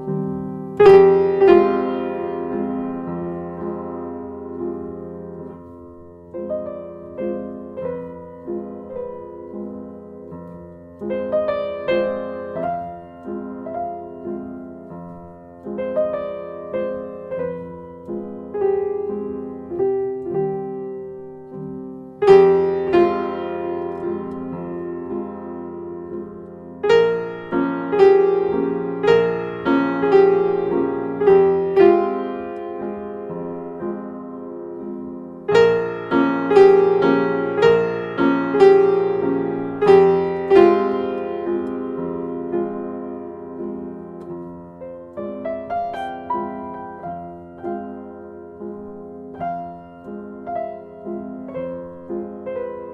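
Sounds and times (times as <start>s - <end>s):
soft piano music: 0.0s - 52.9s.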